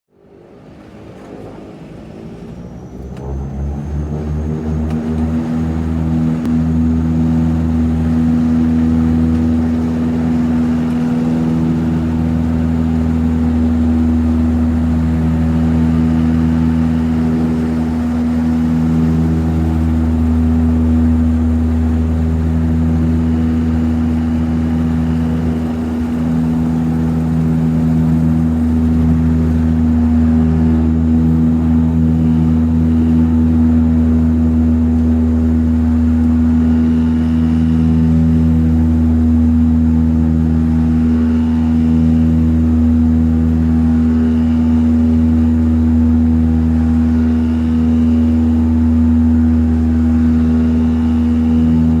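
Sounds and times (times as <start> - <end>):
light plane engine droning: 0.1 - 52.0.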